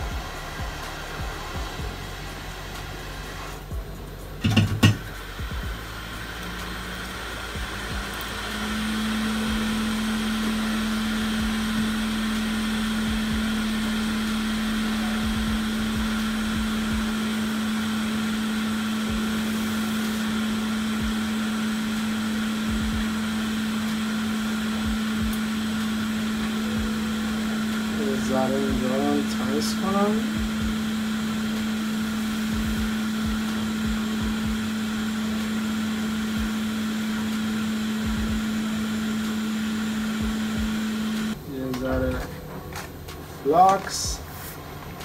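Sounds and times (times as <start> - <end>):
electric fan humming: 0.0 - 45.0.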